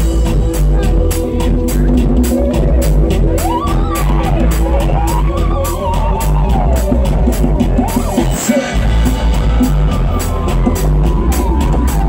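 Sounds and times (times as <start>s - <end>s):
drum cymbal beat: 0.0s - 12.0s
live band playing amplified music: 0.0s - 12.0s.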